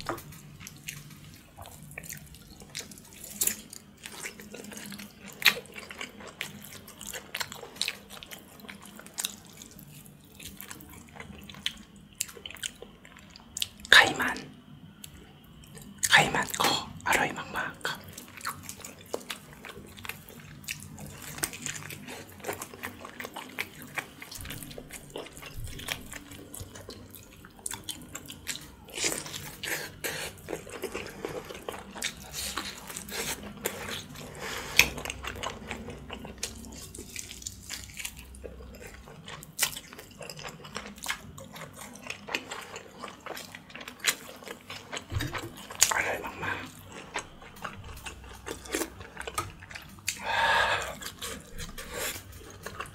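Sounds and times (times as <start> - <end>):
wet chewing and smacking: 0.0 - 13.8, 17.6 - 52.9.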